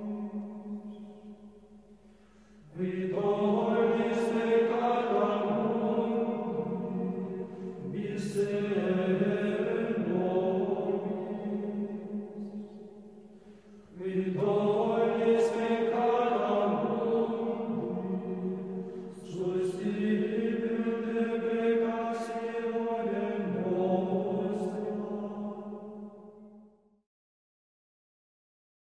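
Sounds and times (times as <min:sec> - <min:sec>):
slow vocal chant: 0:00.0 - 0:26.9.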